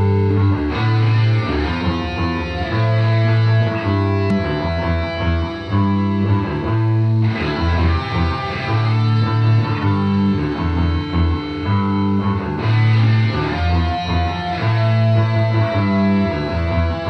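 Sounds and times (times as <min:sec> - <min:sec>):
distorted electric guitar: 0:00.0 - 0:17.0
instrumental rock music: 0:00.0 - 0:17.0
low bass notes: 0:00.0 - 0:17.0.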